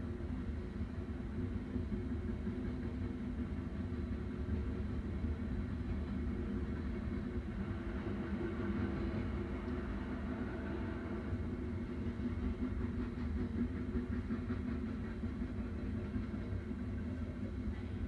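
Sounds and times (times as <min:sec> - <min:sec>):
train passing rumble: 0:00.0 - 0:18.0.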